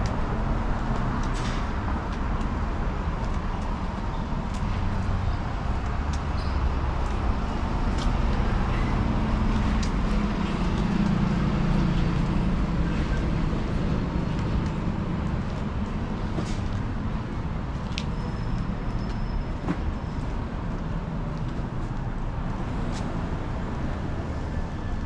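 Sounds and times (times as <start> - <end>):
street traffic: 0.0 - 25.0.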